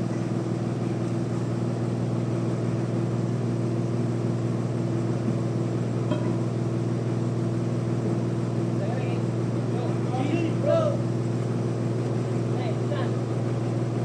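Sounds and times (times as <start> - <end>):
band sawmill humming: 0.0 - 14.0.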